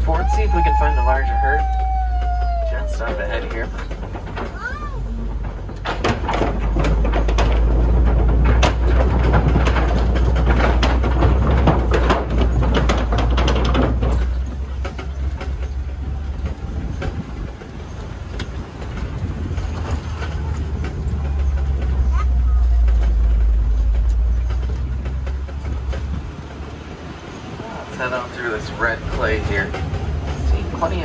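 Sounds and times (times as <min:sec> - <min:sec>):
truck engine and road rumble: 0:00.0 - 0:31.0
truck body rattling: 0:01.6 - 0:27.6.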